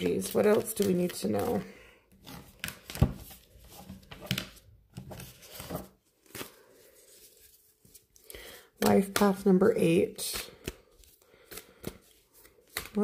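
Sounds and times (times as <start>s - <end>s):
cards rustling and clicking: 0.0s - 13.0s.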